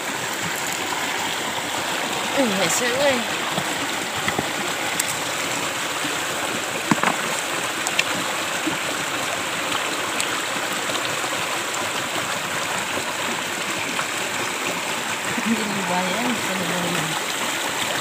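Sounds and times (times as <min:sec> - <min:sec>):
river stream flowing over rocks: 0:00.0 - 0:18.0.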